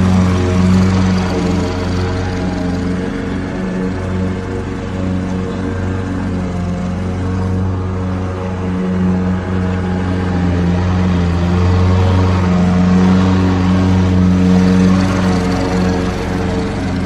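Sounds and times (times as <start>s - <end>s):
lawn mower running: 0.0s - 17.0s.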